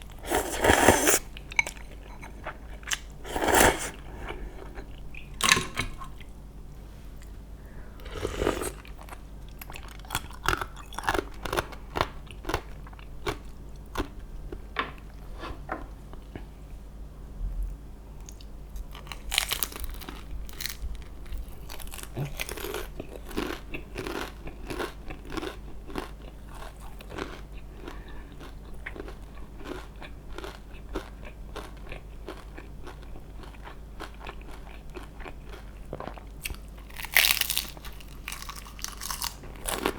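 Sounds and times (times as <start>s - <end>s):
person chewing crunchy food: 0.0s - 6.4s, 8.0s - 15.2s, 18.2s - 39.9s.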